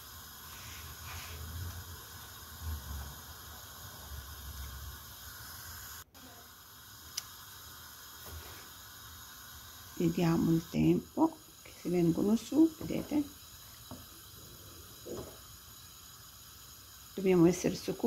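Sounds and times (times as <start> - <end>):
pot of water boiling: 0.0 - 18.0.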